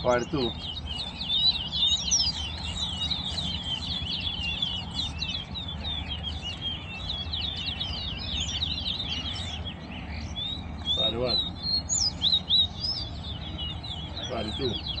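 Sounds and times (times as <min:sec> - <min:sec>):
finch twittering song: 0:00.0 - 0:15.0.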